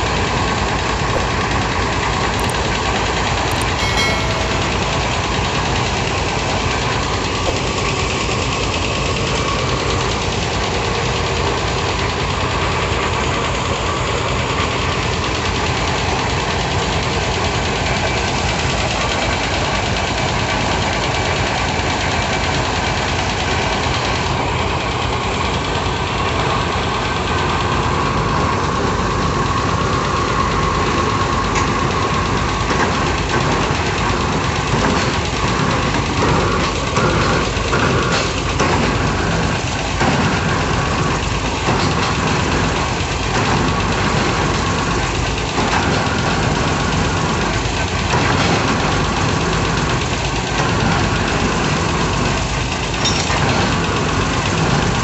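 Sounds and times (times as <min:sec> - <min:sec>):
piling rig engine running: 0:00.0 - 0:55.0.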